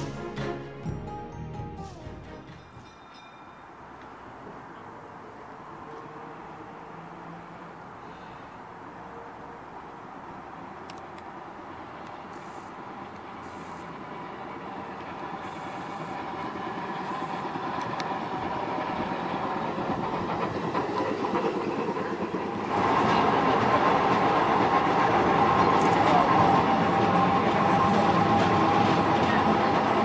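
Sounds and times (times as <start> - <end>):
streetcar running on rails: 0.0 - 30.0.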